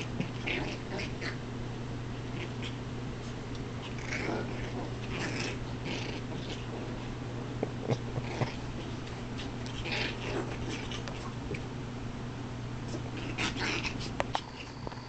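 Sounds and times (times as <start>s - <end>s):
puppies growling and yipping: 0.0s - 1.4s, 2.1s - 2.8s, 3.7s - 11.7s, 12.9s - 14.8s.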